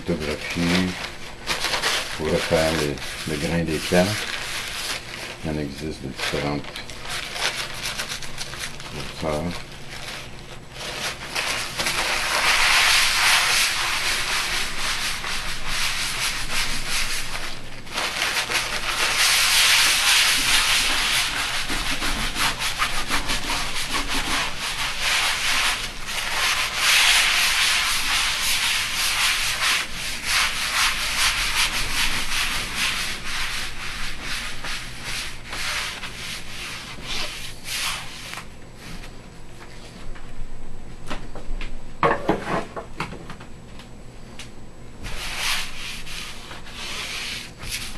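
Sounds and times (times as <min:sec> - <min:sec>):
cloth rag scrubbing on glass: 0:00.1 - 0:38.4, 0:45.0 - 0:47.9.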